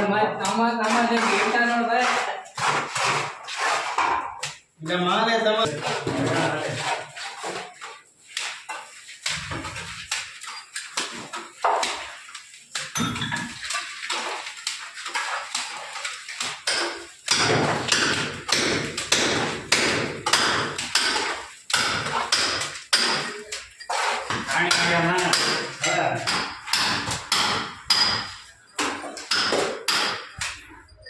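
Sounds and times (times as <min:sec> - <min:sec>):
trowel throwing plaster on wall: 0:00.4 - 0:04.6, 0:05.7 - 0:30.8.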